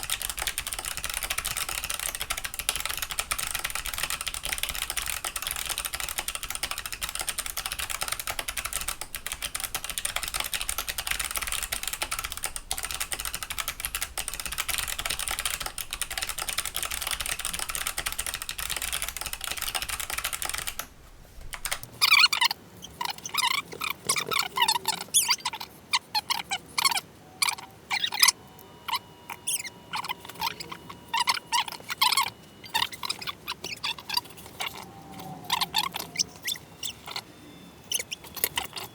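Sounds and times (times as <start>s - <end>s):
mechanical keyboard typing: 0.0s - 20.9s, 21.5s - 37.2s, 37.9s - 38.9s.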